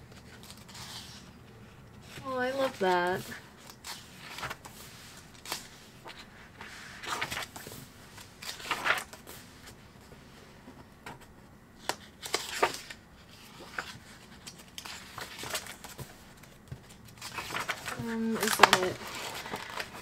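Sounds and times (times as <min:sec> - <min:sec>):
paper pages turning: 0:00.1 - 0:01.4, 0:02.0 - 0:10.1, 0:11.1 - 0:20.0.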